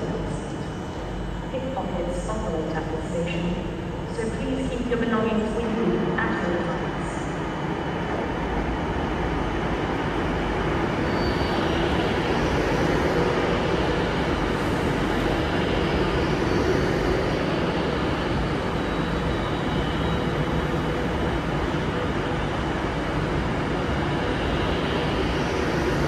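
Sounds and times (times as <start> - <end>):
faint high whines: 0.0 - 26.0.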